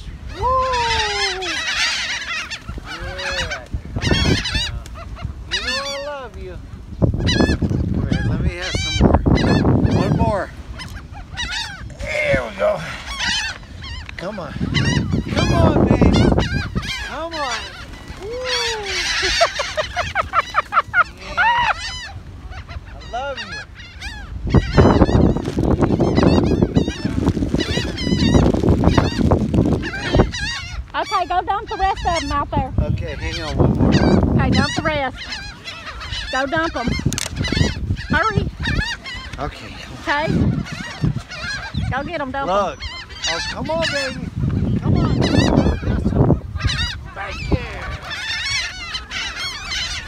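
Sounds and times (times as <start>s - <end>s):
gulls calling: 0.0s - 50.0s.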